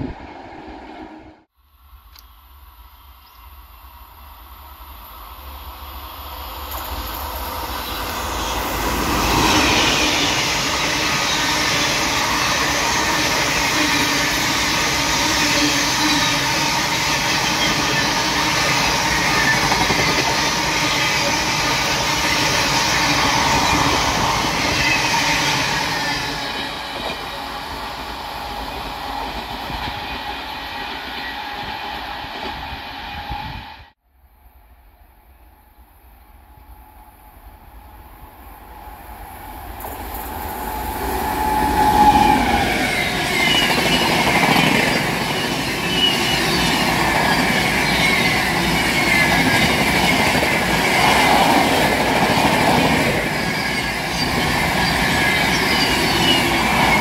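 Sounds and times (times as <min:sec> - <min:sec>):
train passing at speed: 0:00.0 - 0:01.5, 0:02.6 - 0:34.0, 0:34.8 - 0:57.0.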